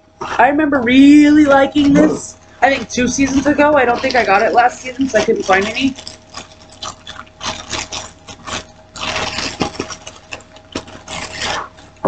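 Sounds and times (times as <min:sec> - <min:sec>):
plastic wrapper crinkling: 0:01.4 - 0:12.0.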